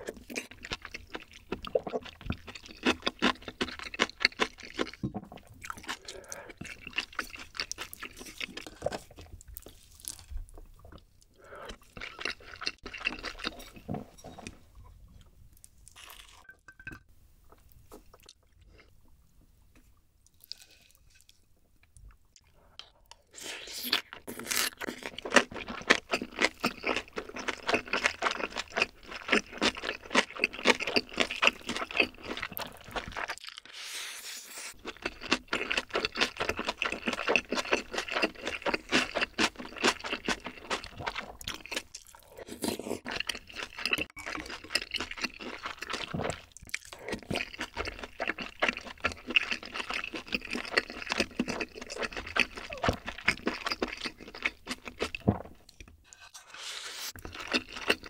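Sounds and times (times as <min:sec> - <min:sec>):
chewing and wet mouth sounds: 0:00.0 - 0:13.9, 0:15.6 - 0:19.0, 0:19.7 - 0:58.0.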